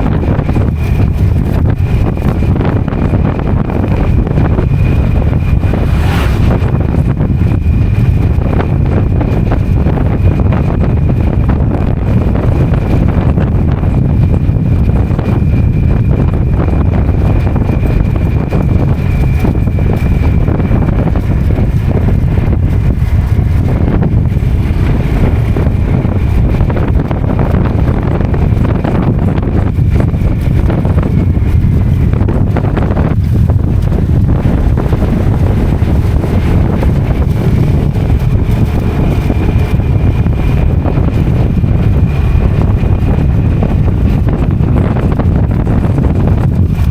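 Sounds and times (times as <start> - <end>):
motorcycle engine running: 0.0 - 46.9
road noise: 0.0 - 46.9
wind buffeting microphone: 0.0 - 46.9.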